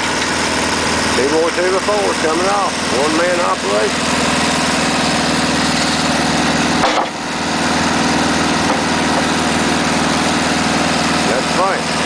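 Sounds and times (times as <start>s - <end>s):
engine running a sawmill: 0.0s - 12.0s.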